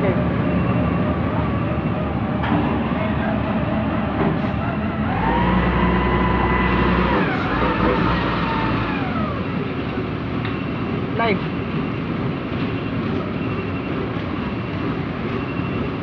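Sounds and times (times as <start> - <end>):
heavy diesel machinery running: 0.0 - 16.0.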